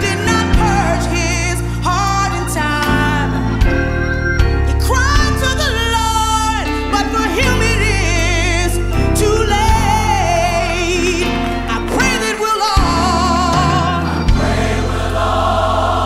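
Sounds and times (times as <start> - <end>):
steady bass accompaniment: 0.0 - 16.0.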